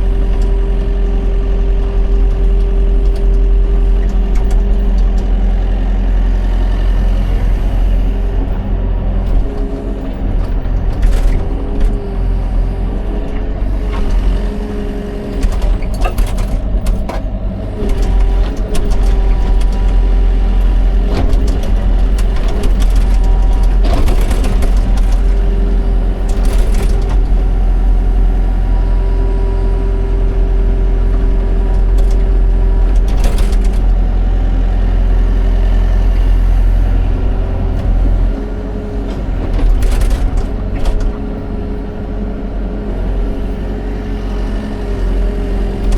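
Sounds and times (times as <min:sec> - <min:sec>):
excavator engine and hydraulics: 0:00.0 - 0:45.9.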